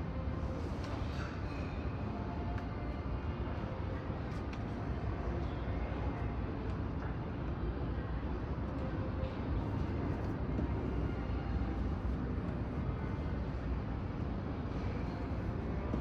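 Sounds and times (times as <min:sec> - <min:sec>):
airport ambient rumble: 0:00.0 - 0:16.0.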